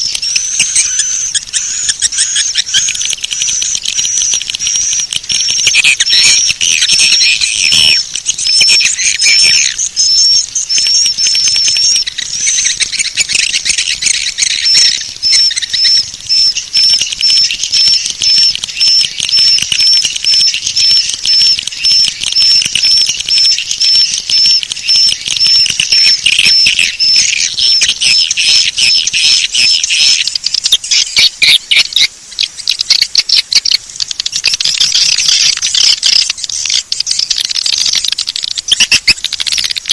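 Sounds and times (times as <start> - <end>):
swiftlets twittering and chirping: 0.0 - 39.9.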